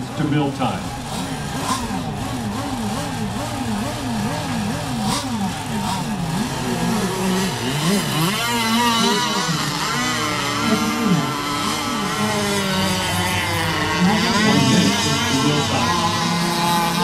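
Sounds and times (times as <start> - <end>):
high wavering engine whine: 0.0 - 17.0
model boat engines revving: 0.0 - 17.0.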